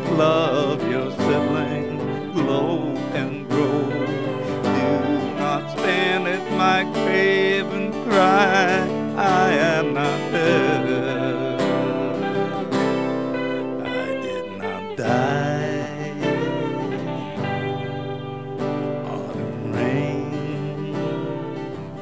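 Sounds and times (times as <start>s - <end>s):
acoustic guitars playing: 0.0s - 22.0s
person singing with vibrato: 0.0s - 22.0s.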